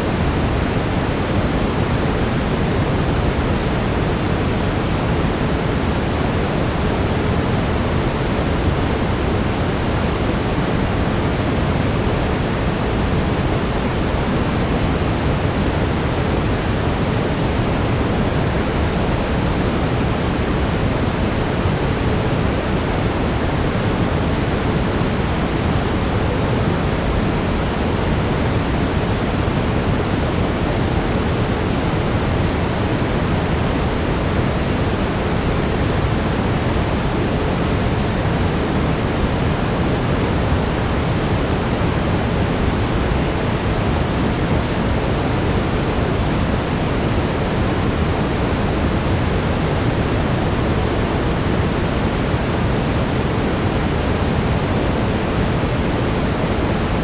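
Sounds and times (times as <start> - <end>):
deep brown noise hiss: 0.0 - 57.0.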